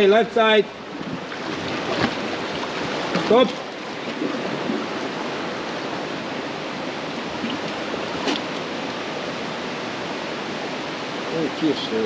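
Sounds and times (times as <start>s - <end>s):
river white water rushing: 0.0s - 12.0s.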